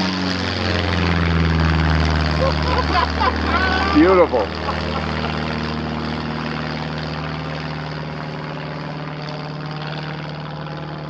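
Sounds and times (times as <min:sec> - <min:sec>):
light plane engine droning: 0:00.0 - 0:11.0.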